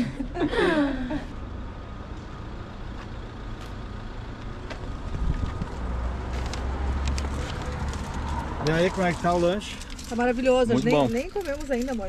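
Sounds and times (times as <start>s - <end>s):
heavy vehicle engine rumble: 0.0s - 12.0s.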